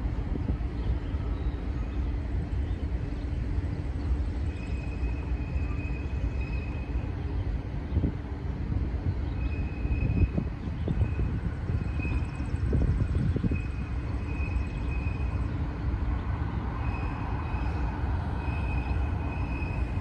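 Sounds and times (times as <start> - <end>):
distant freight train rumble: 0.0 - 20.0.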